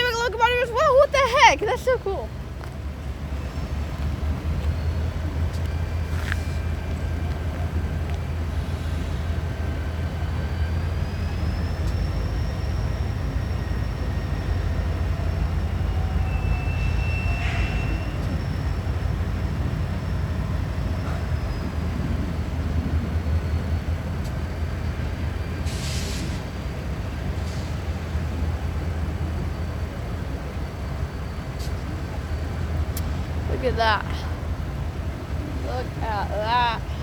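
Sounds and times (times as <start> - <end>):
diesel locomotives rumbling: 0.0 - 37.0.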